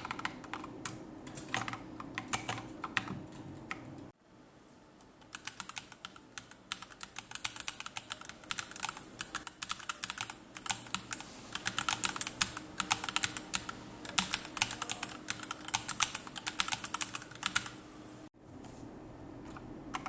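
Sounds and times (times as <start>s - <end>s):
mechanical keyboard keys clacking: 0.0s - 3.8s, 5.2s - 18.2s.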